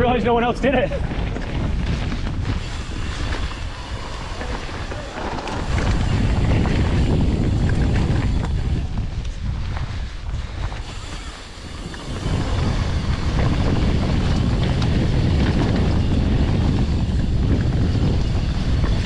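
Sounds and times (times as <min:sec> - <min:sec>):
bike rattling over bumps: 0:00.0 - 0:19.0
bike tyres rolling over dirt: 0:00.0 - 0:19.0
wind buffeting microphone: 0:00.0 - 0:19.0.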